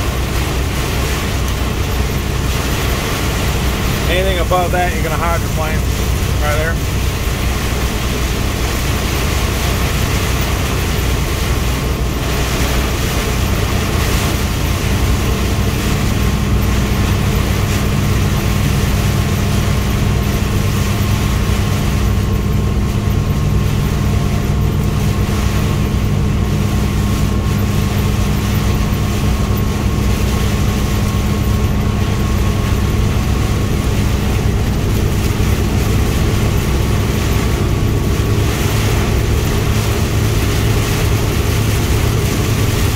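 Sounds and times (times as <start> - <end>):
heavy rain on windshield and roof: 0.0 - 42.9
truck engine hum: 0.0 - 42.9
tyres on wet road: 0.0 - 42.9.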